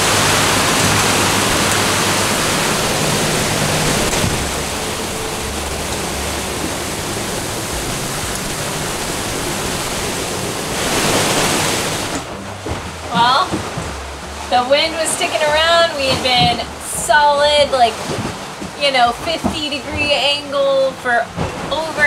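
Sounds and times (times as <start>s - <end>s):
rain and spray hissing on water: 0.0s - 22.0s
strong wind over rough sea: 0.0s - 22.0s.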